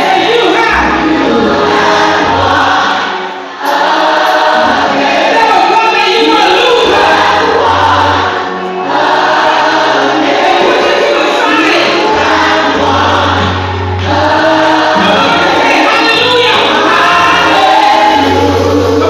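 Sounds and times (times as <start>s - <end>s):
choir singing with band: 0.0s - 19.0s.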